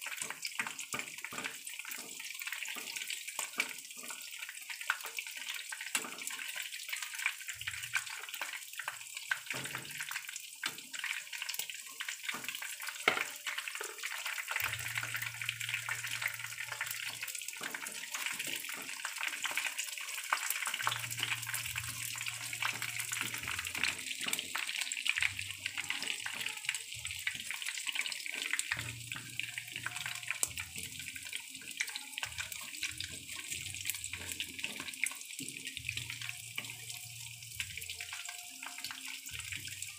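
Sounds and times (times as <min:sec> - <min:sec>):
chicken sizzling in hot oil: 0:00.0 - 0:39.9.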